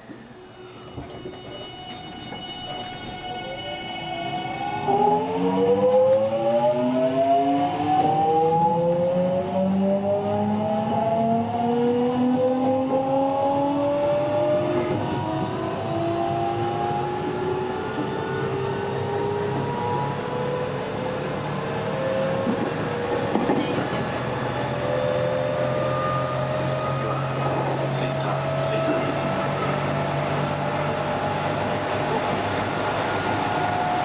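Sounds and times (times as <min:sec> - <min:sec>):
train inverter whine rising in pitch: 0:03.1 - 0:23.2, 0:24.0 - 0:34.0.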